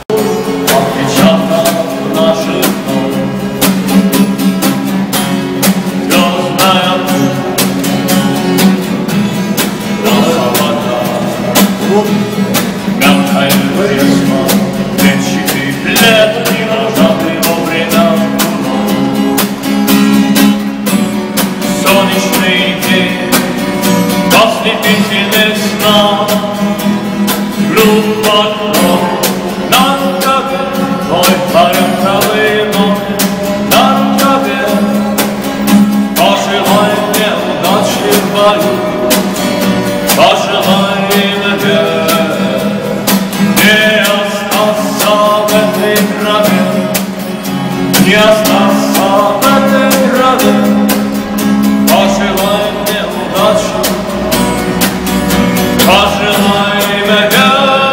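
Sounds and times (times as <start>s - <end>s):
person singing: 0.0s - 19.6s, 21.5s - 57.9s
acoustic guitar strumming: 0.0s - 57.9s.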